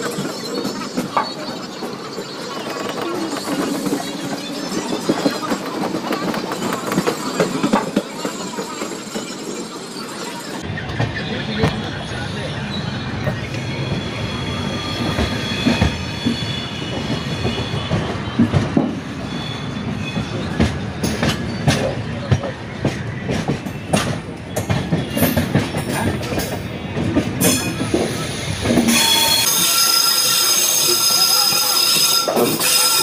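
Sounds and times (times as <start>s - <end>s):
high wheel squeal: 0.0s - 21.9s, 27.4s - 33.0s
train wheels rumbling on rails: 0.0s - 33.0s.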